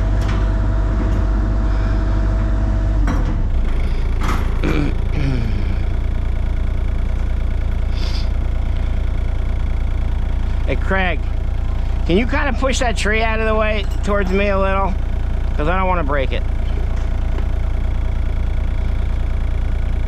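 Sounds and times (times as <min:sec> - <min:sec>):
heavy machinery engine running: 0:00.0 - 0:20.0.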